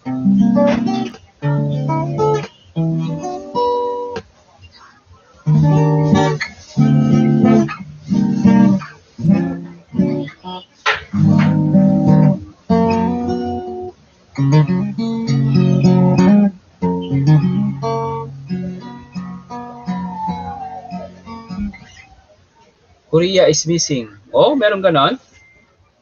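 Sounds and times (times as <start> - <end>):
acoustic guitar chords: 0.0 - 22.4.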